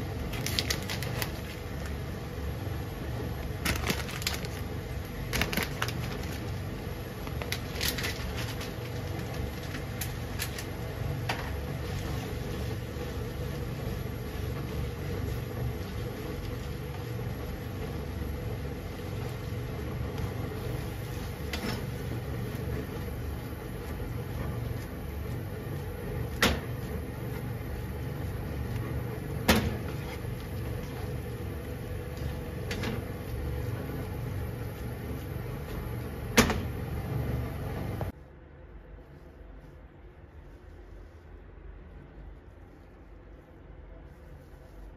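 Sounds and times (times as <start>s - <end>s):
low kitchen hum: 0.0s - 44.9s.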